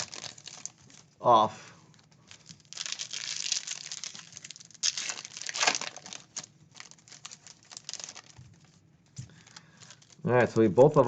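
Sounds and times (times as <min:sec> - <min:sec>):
foil packs tearing open: 0:00.0 - 0:01.4, 0:02.0 - 0:10.6
foil wrappers crinkling: 0:00.0 - 0:11.0.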